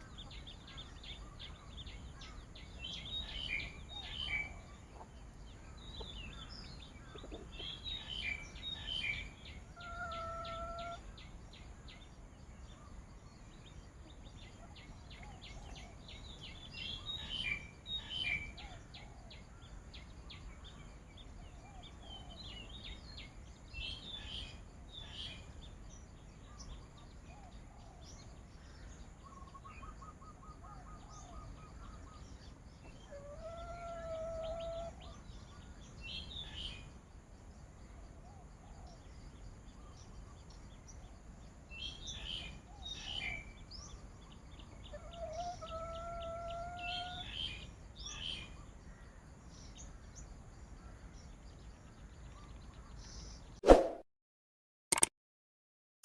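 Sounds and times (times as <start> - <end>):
wild birds chirping: 0.0 - 53.6.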